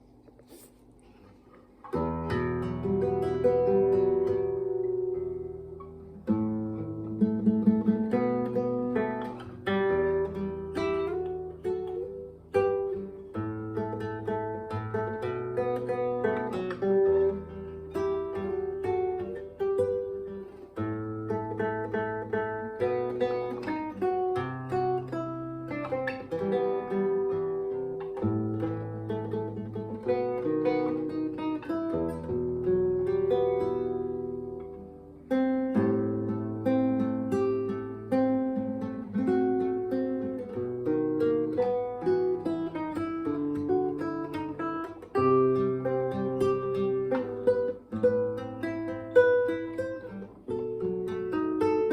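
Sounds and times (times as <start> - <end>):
acoustic guitar fingerpicked melody: 0.0 - 51.9.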